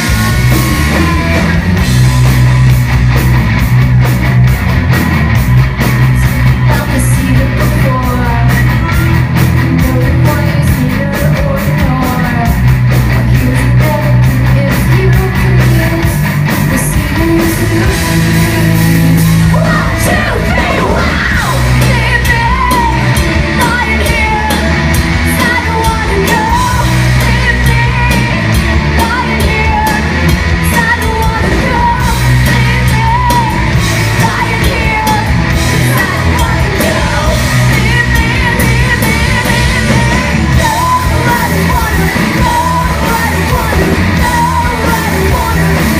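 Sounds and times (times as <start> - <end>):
woman singing lead: 0.0 - 2.8, 6.0 - 45.9
live rock band playing: 0.0 - 45.9.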